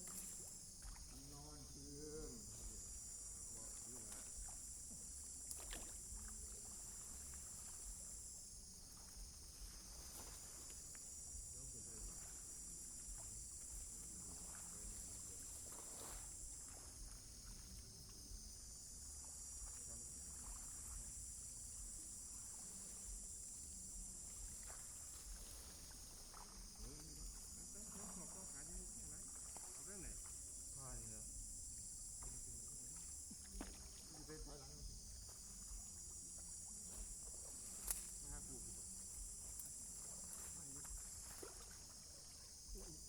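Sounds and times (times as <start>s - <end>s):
high insect chorus: 0.0s - 43.0s.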